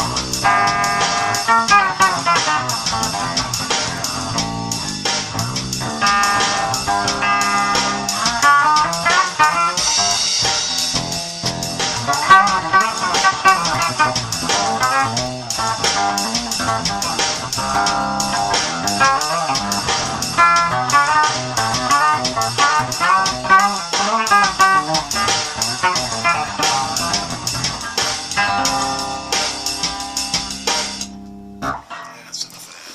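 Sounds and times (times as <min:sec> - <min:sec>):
bass guitar melodic runs: 0:00.0 - 0:32.0
drum loop: 0:00.0 - 0:32.9.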